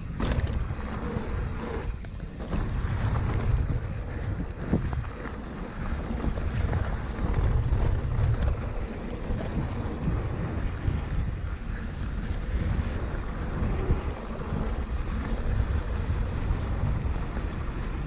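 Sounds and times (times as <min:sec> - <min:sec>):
low trail rumble: 0:00.0 - 0:18.0
wind buffeting microphone: 0:00.0 - 0:18.0.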